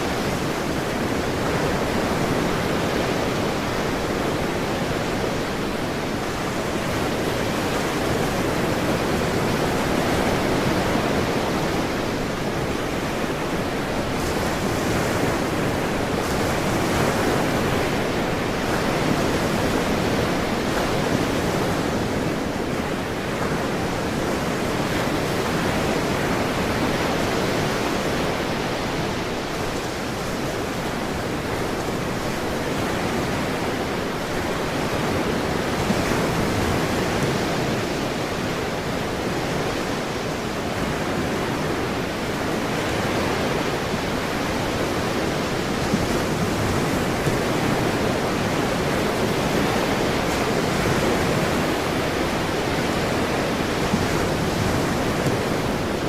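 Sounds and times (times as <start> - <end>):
ocean surf rushing: 0.0 - 56.0.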